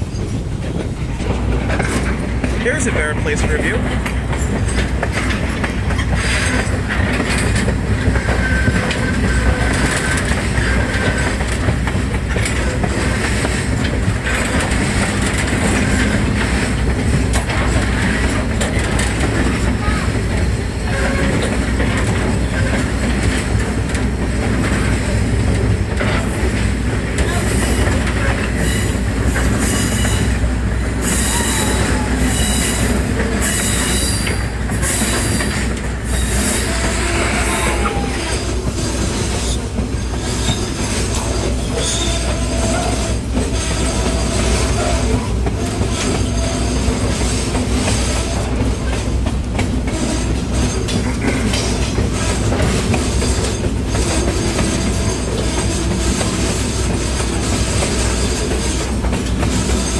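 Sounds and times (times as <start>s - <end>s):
train rumble: 0.0s - 59.9s
wheels clicking over rail joints: 0.0s - 59.9s
wheels squealing on rails: 2.7s - 23.6s, 26.0s - 49.1s, 49.8s - 59.9s.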